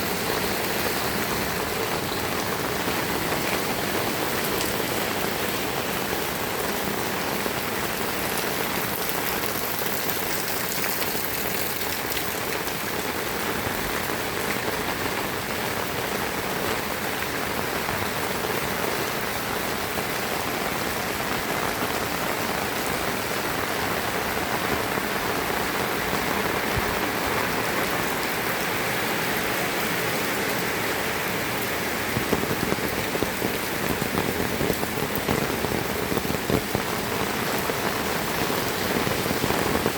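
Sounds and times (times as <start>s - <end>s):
raindrops spattering nearby: 0.0s - 18.2s, 23.5s - 39.9s
heavy rain falling: 0.0s - 39.9s.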